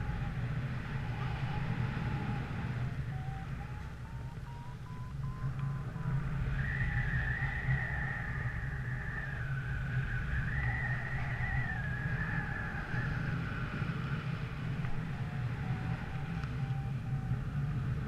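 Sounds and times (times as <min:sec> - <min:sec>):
wind buffeting microphone: 0:00.0 - 0:18.0
thin high whistle: 0:00.9 - 0:13.2, 0:15.0 - 0:17.4.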